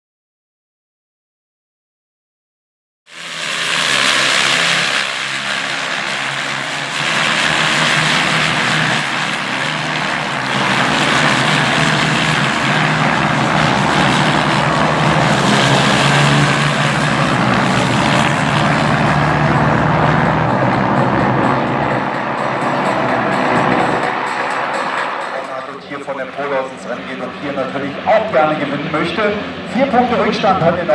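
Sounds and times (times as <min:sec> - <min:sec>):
racing motorcycles passing: 0:03.2 - 0:30.9.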